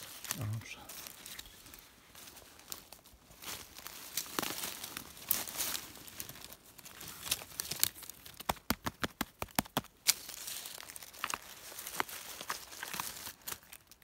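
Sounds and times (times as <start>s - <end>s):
dry leaves rustling and crackling: 0.0s - 9.4s, 10.0s - 14.0s.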